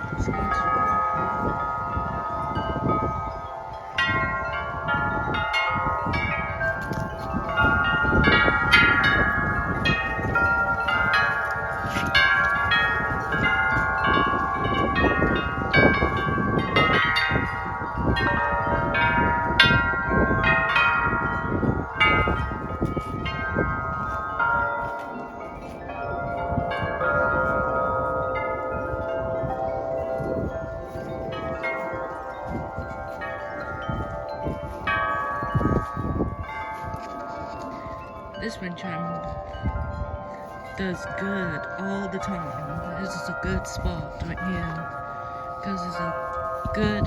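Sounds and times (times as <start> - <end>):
wind chimes ringing: 0.0 - 47.0.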